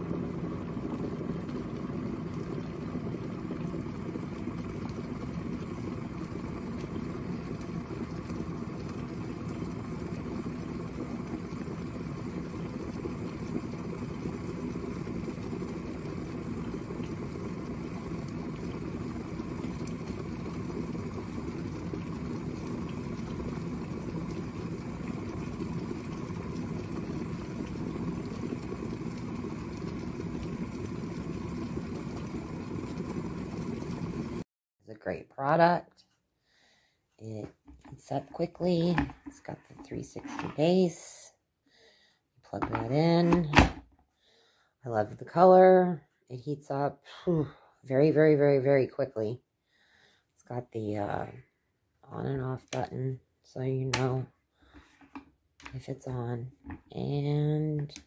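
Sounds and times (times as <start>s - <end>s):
water boiling in a kettle: 0.0s - 35.8s, 37.2s - 41.4s, 42.4s - 58.0s.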